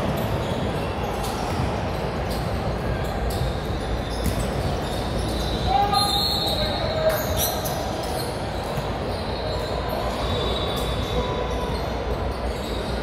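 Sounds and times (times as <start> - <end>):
echoing din of voices: 0.0 - 13.0
shoe squeaks: 0.0 - 13.0.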